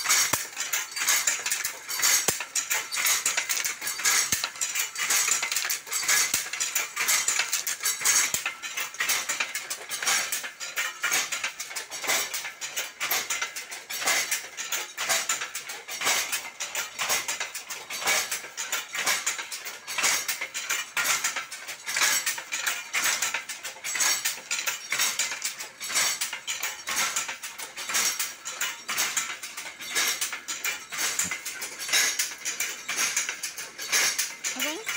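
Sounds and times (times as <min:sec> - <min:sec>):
loud loom beater knocks: 0:00.0 - 0:12.4, 0:13.0 - 0:34.9
loom rattling clatter: 0:00.0 - 0:34.9.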